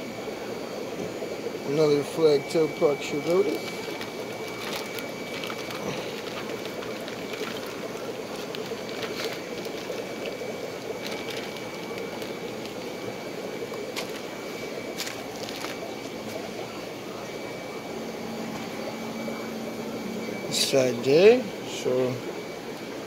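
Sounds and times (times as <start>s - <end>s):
aquarium filters bubbling water: 0.0s - 23.0s
faint high whine: 0.0s - 23.0s.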